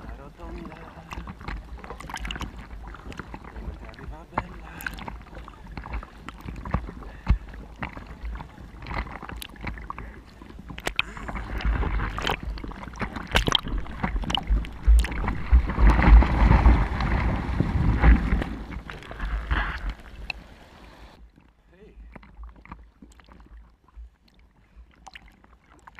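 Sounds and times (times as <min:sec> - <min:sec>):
sea water sloshing and splashing: 0:00.0 - 0:25.9.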